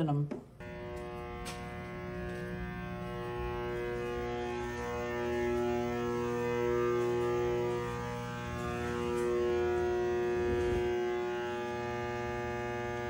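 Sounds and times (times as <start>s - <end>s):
transformer humming: 0.6s - 13.0s.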